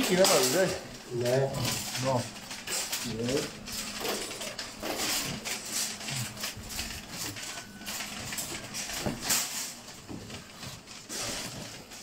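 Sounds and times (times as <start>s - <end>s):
shopping trolley rattling: 0.0s - 12.0s
supermarket background noise: 0.0s - 12.0s.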